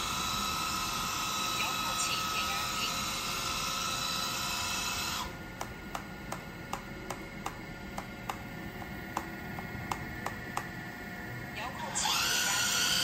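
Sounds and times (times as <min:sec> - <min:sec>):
hydraulic pump whine: 0:00.0 - 0:13.0.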